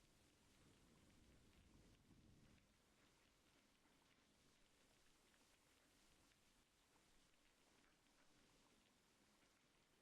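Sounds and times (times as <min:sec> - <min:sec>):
faint rain: 0:00.0 - 0:10.0.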